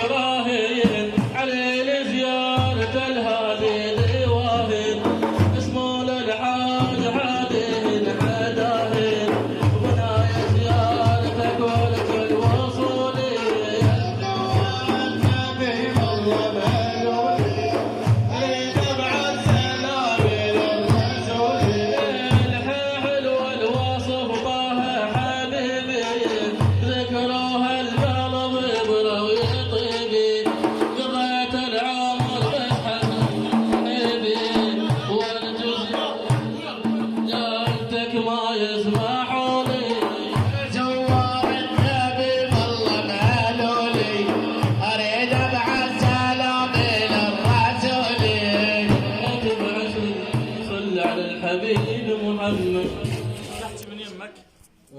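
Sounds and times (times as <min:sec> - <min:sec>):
hand drum beat: 0:00.5 - 0:53.7.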